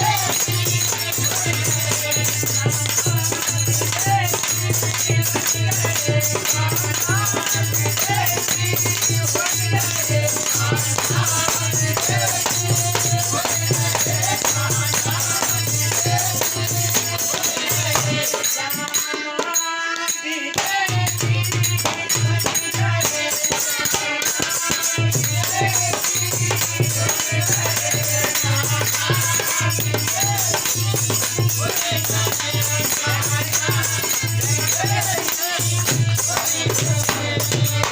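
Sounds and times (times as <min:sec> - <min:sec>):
jingling hand percussion: 0:00.0 - 0:37.9.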